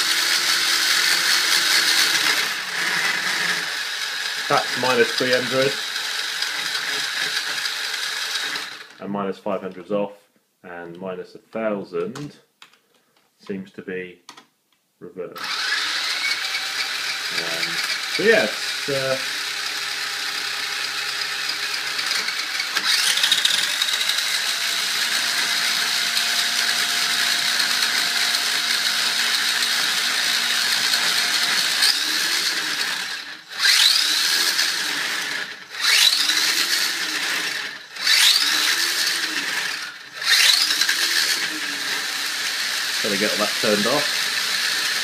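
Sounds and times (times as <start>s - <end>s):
rc car motor whine: 0.0s - 9.0s, 15.4s - 45.0s.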